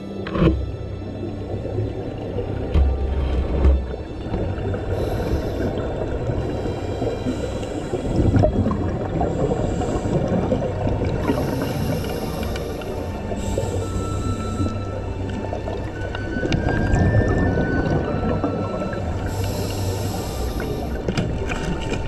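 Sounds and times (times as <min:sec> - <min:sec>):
underwater rumble: 0:00.0 - 0:22.0
gurgling exhaled bubbles: 0:03.4 - 0:22.0.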